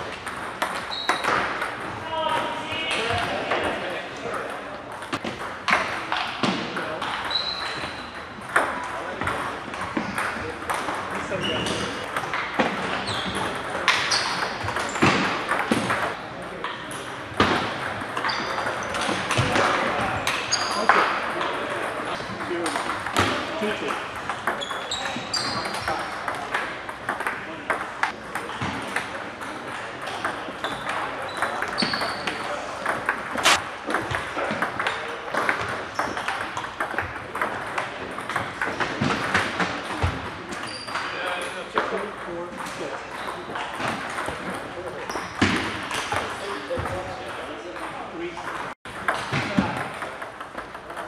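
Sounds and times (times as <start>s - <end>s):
table tennis balls clicking: 0.0s - 2.0s, 4.4s - 51.0s.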